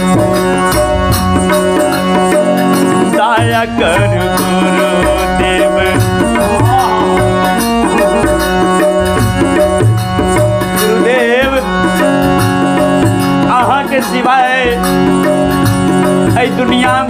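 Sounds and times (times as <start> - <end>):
dholak drum beat: 0.0 - 17.0
harmonium chords: 0.0 - 17.0.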